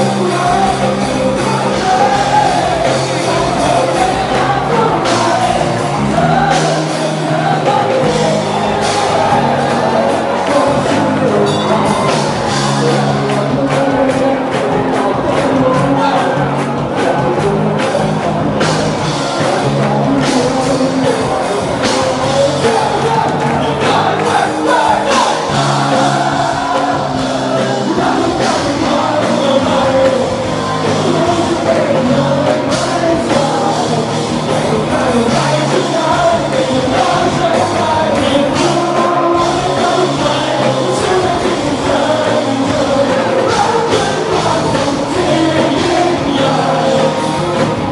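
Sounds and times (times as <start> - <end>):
electric bass: 0.0 - 47.9
keyboard: 0.0 - 47.9
male singer: 0.0 - 47.9.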